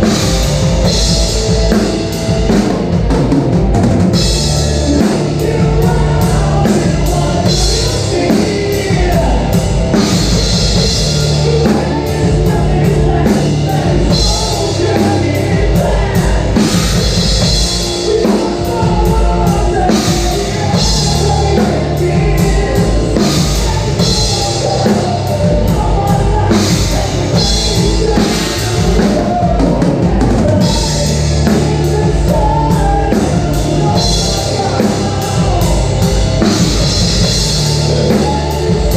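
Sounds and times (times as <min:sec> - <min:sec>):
drum kit beat: 0:00.0 - 0:38.9
loud rock music: 0:00.0 - 0:38.9.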